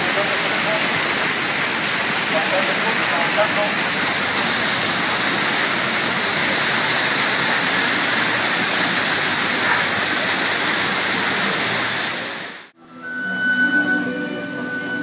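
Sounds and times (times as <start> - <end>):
fountain water rushing: 0.0 - 12.8.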